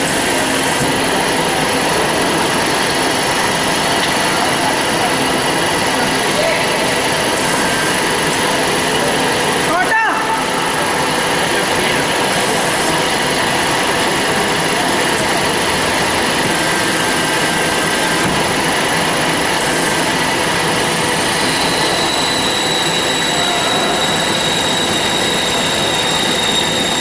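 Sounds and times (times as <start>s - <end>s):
band saw whining: 0.0s - 27.0s.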